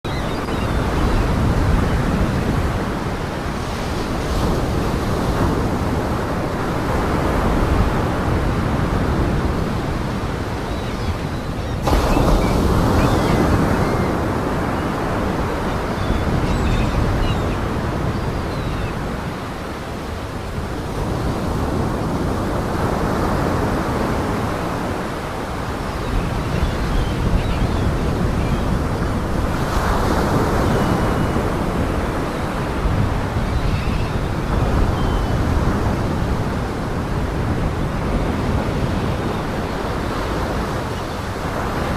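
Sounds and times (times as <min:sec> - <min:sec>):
wind buffeting microphone: 0:00.0 - 0:41.9
heavy surf pounding shore: 0:00.4 - 0:41.9.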